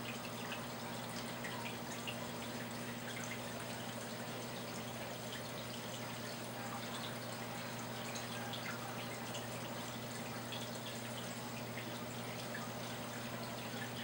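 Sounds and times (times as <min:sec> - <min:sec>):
water trickling and bubbling: 0:00.0 - 0:14.0.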